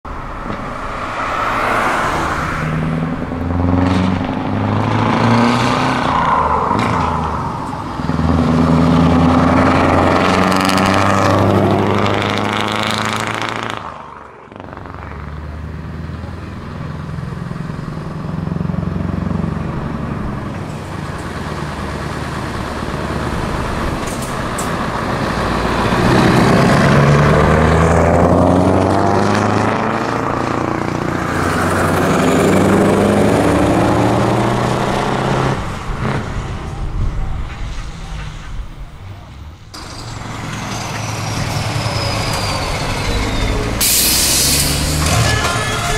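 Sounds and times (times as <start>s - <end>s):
loud trucks driving past: 0.1s - 45.9s.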